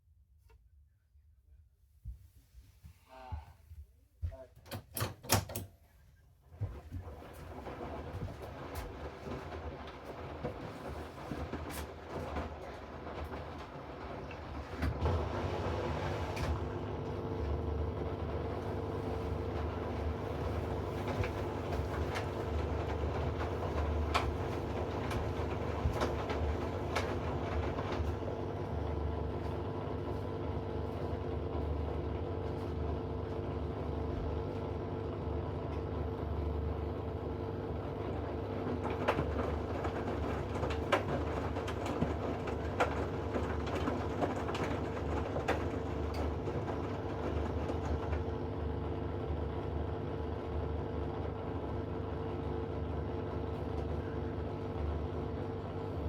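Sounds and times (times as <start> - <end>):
washing machine motor humming: 6.7 - 56.0.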